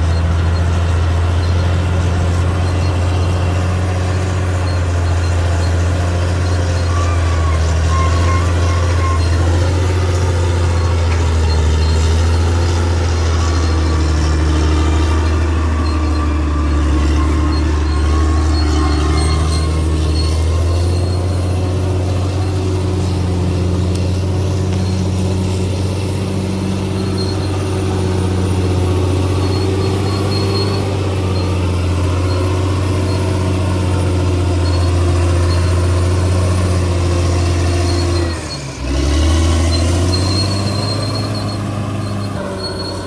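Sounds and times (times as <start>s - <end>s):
bulldozer diesel engine running: 0.0s - 43.0s
thin high squeal: 0.0s - 43.0s.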